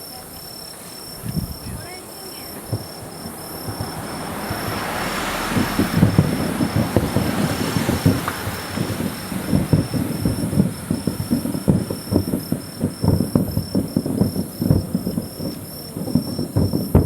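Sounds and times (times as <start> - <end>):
distant fireworks booming: 0.0 - 17.0
insect chirping: 0.0 - 17.0.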